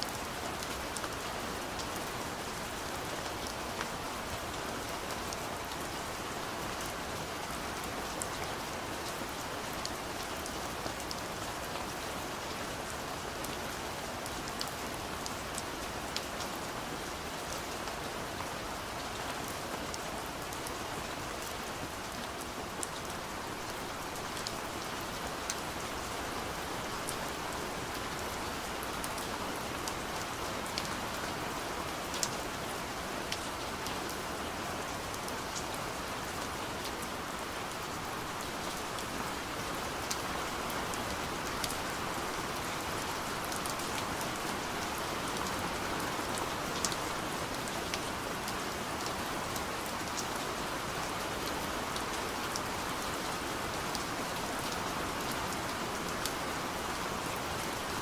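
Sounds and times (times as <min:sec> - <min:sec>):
gentle rain on a window: 0:00.0 - 0:58.0.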